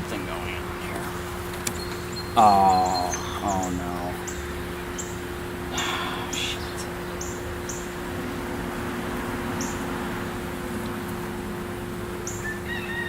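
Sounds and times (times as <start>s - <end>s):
steady outdoor hum: 0.0s - 13.0s.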